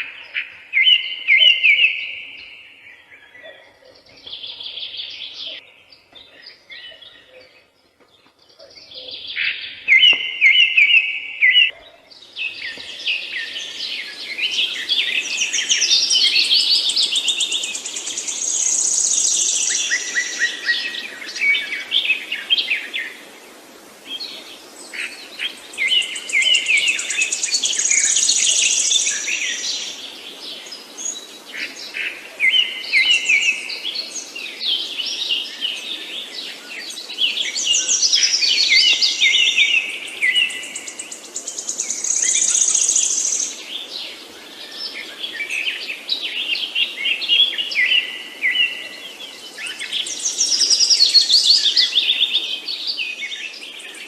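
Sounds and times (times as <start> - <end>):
songbirds twittering: 0.0 - 54.0
low background hiss: 0.1 - 54.0.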